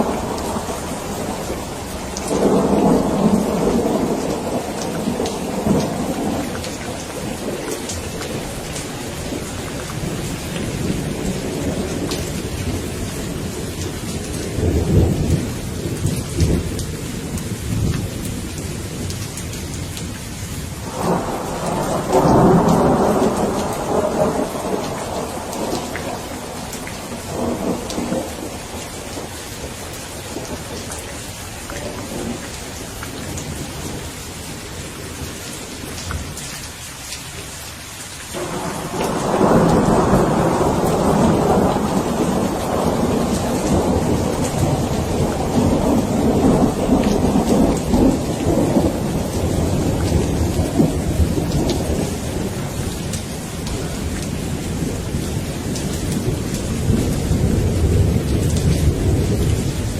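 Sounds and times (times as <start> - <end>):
rolling thunder: 0.0 - 19.2, 20.8 - 31.0, 38.4 - 59.9
steady rain falling: 0.0 - 59.9.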